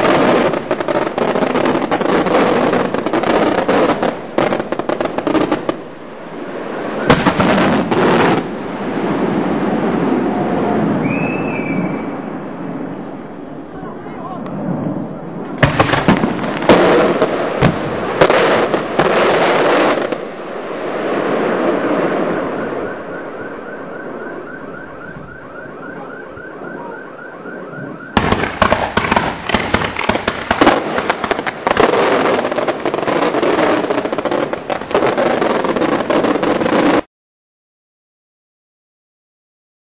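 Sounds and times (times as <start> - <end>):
fireworks bangs and crackling: 0.0 - 37.1.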